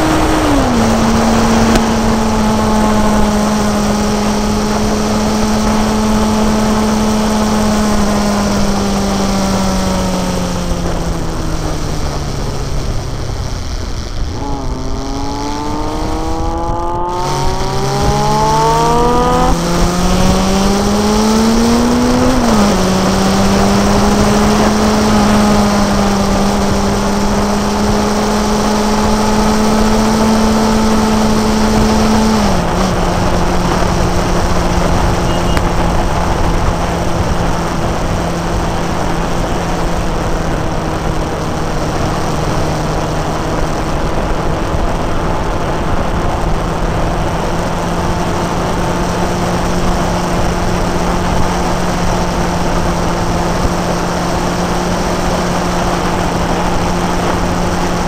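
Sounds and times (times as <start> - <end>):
motorcycle engine: 0.0 - 58.0
wind rush: 0.0 - 58.0.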